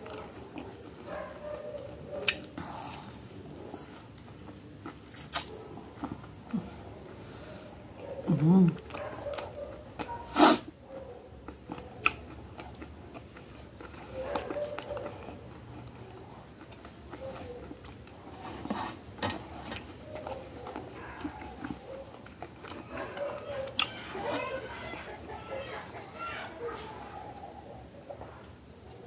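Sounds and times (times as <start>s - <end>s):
wet chewing mouth sounds: 0.0s - 19.1s, 19.8s - 25.2s.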